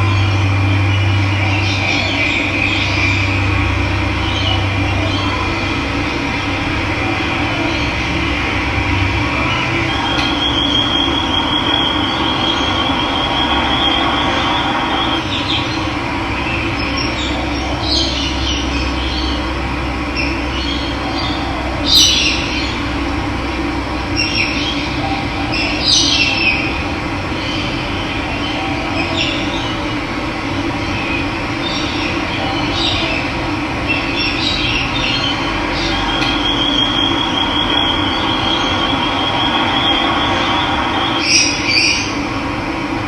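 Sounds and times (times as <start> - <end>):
birds chirping: 0.0 - 23.0, 24.1 - 42.3.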